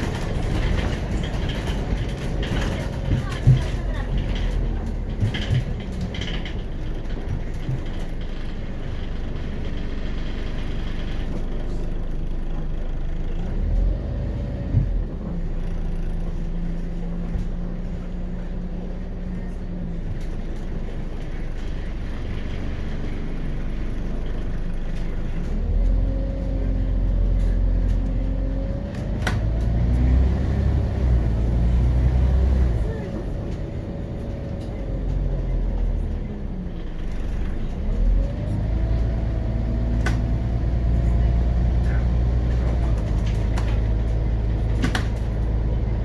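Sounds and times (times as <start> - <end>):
bus diesel engine droning: 0.0 - 46.0.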